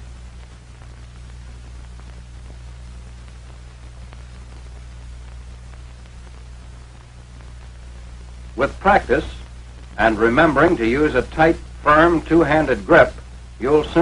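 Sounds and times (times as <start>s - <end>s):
film soundtrack hiss and hum: 0.0s - 14.0s.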